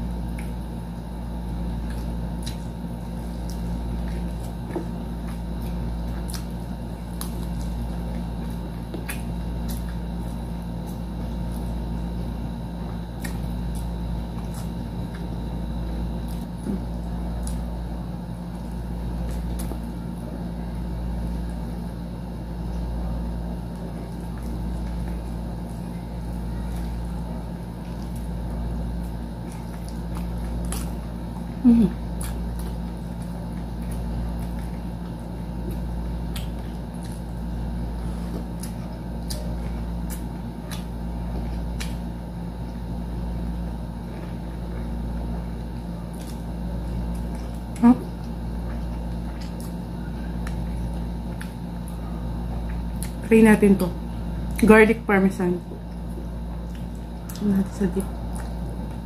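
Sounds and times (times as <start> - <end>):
close chewing and mouth sounds: 0.0 - 59.0.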